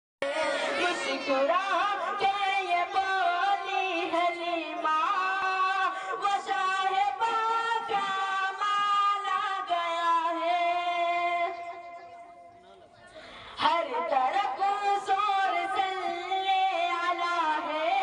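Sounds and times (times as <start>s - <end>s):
boy singing unaccompanied: 0.2s - 11.9s, 13.6s - 18.0s.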